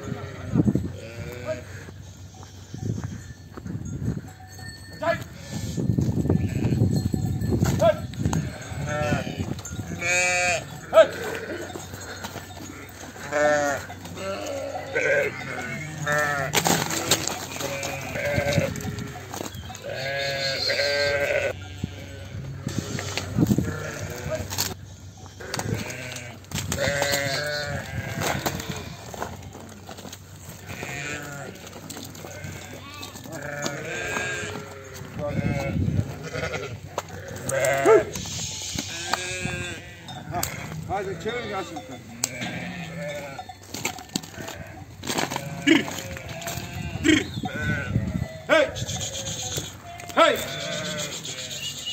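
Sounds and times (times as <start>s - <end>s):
sheep bleating: 0.0s - 3.3s, 5.0s - 6.8s, 7.8s - 29.3s, 30.6s - 43.6s, 44.2s - 51.9s.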